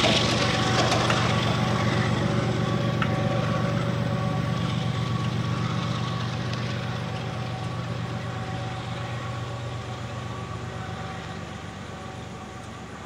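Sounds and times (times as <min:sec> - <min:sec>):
locomotive diesel engine running: 0:00.0 - 0:13.0.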